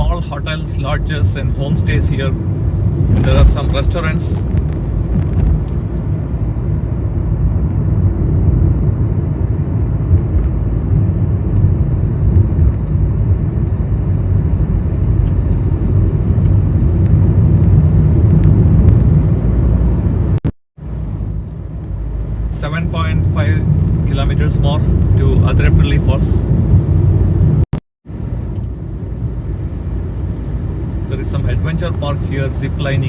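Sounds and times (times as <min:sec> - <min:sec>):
vehicle road and engine noise: 0:00.0 - 0:33.0.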